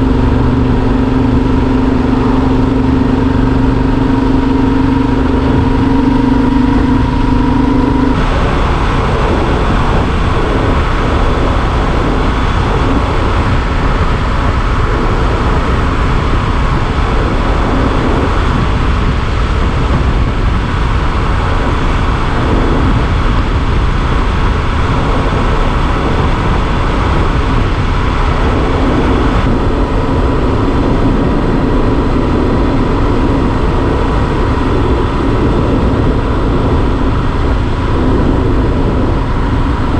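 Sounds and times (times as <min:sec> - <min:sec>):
motorcycle engine drone: 0:00.0 - 0:39.9
wind and road rush: 0:00.0 - 0:39.9.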